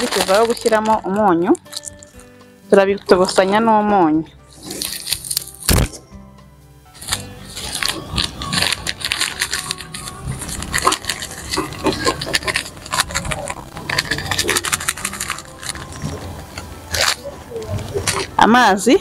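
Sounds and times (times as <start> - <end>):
plastic bag crinkling: 0.0 - 2.3, 4.5 - 6.0, 7.0 - 18.5.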